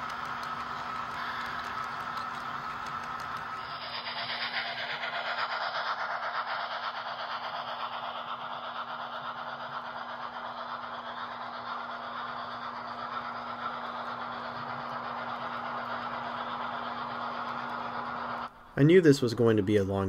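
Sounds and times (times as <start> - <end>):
model train wheels rattling on rail: 0.0 - 18.5
low hum: 0.0 - 18.8.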